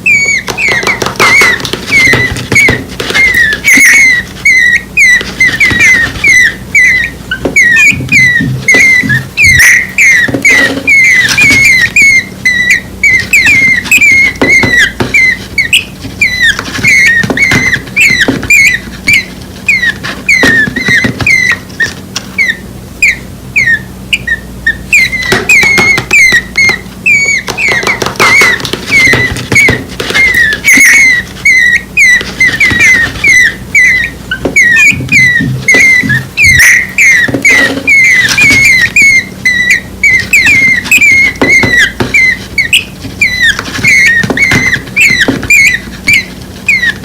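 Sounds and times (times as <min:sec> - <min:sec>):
baby birds peeping: 0:00.0 - 0:47.0.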